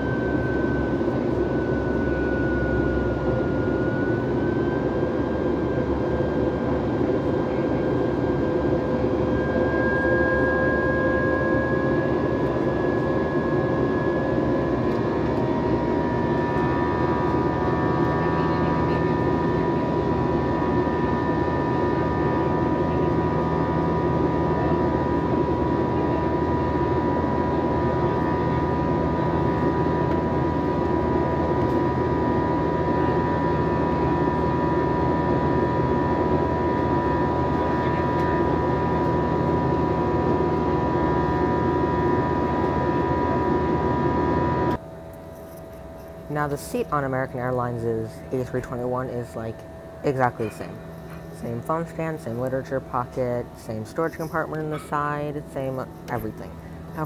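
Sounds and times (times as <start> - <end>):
steady whining tones: 0.0 - 57.0.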